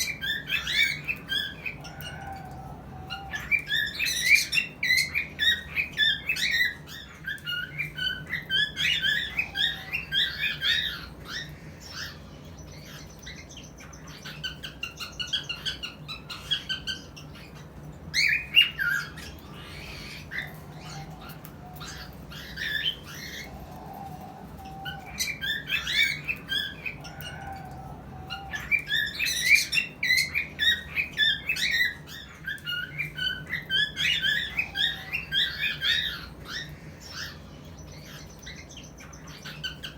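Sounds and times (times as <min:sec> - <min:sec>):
cockatiels chirping and squawking: 0:00.0 - 0:39.9.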